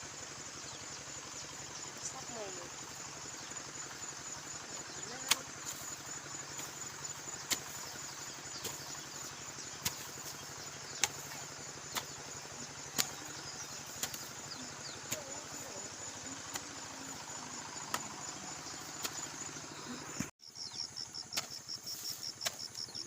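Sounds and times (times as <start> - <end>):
small engine running: 0.0 - 20.3.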